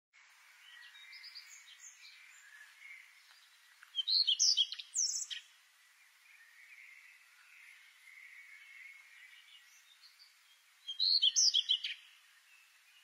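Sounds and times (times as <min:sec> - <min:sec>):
faint steady hiss: 0:00.2 - 0:13.0
small birds chirping: 0:00.2 - 0:13.0.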